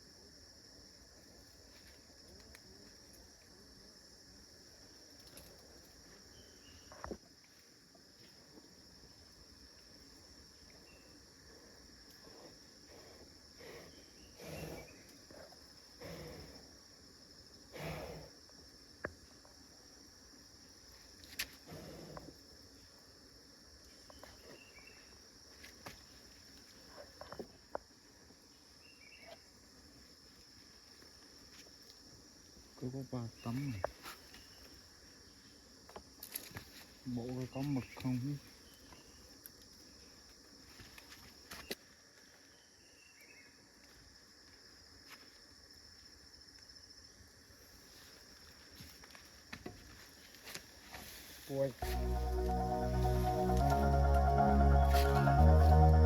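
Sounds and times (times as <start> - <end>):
forest insects droning: 0.0 - 56.0.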